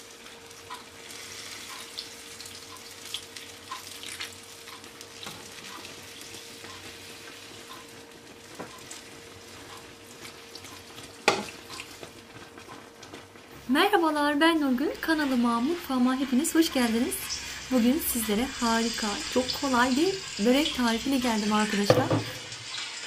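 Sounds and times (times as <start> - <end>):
pastry crackling as water soaks: 0.0 - 23.0.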